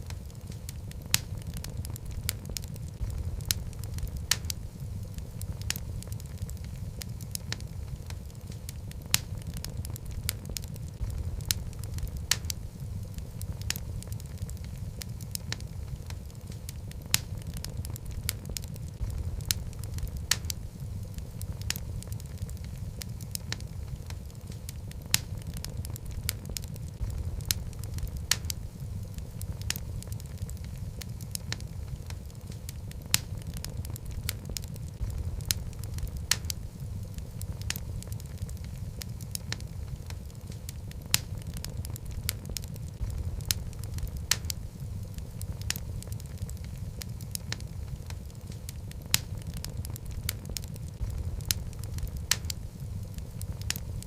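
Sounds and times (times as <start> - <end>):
flames rumbling: 0.0 - 54.0
logs crackling and popping: 0.0 - 54.0.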